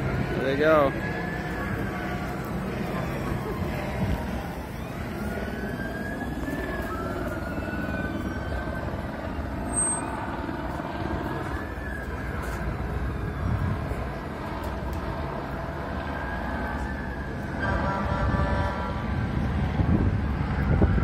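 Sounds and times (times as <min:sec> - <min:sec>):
low traffic rumble: 0:00.0 - 0:21.0
police sirens wailing: 0:00.0 - 0:21.0.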